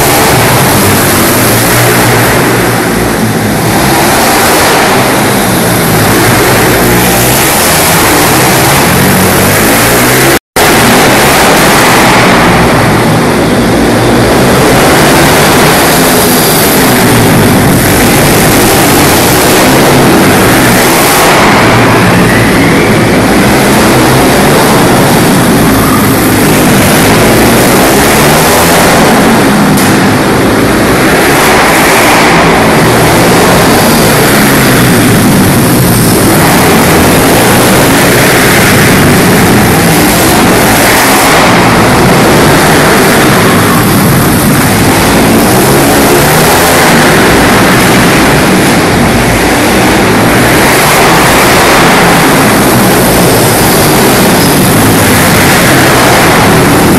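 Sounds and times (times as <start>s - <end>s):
pit bike engines revving: 0.0s - 56.9s.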